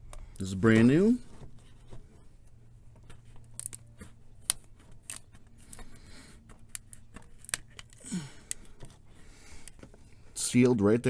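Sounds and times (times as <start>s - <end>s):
plastic scraping rasp: 0.0s - 10.4s.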